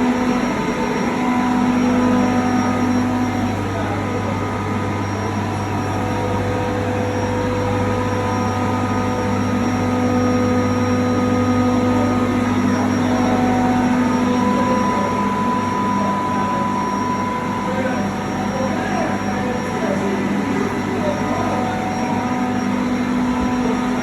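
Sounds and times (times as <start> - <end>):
high machine whine: 0.0 - 24.0
refrigeration compressor hum: 0.0 - 24.0.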